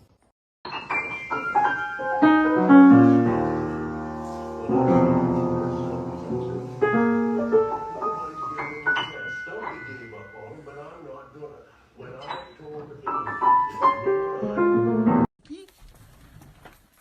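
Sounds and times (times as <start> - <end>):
piano music: 0.7 - 11.3, 12.2 - 15.3.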